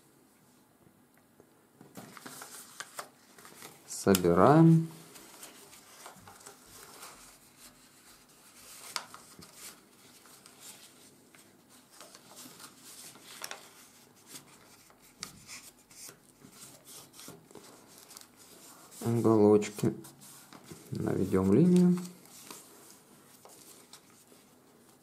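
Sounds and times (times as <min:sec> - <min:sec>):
paper crackles: 0:01.9 - 0:25.0
paper rubbing and rustling: 0:01.9 - 0:25.0.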